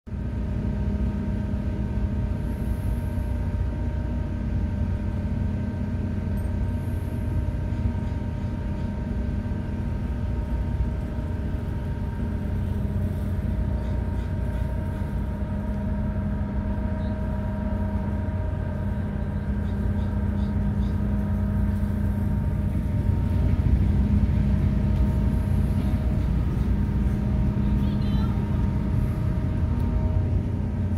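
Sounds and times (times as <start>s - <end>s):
ship engines rumbling: 0.1s - 30.9s
steady hum tones: 0.1s - 30.9s.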